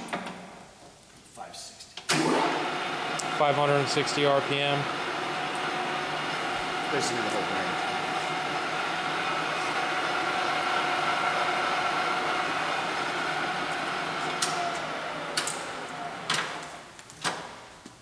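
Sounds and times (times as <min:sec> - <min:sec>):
lathe whining: 0:02.1 - 0:16.8.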